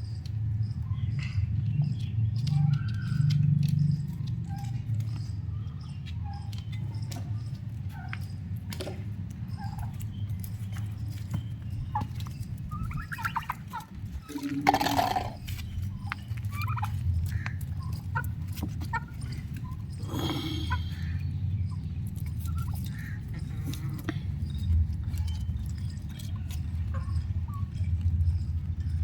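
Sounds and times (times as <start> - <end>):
young turkeys peeping and clucking: 0.0 - 29.0.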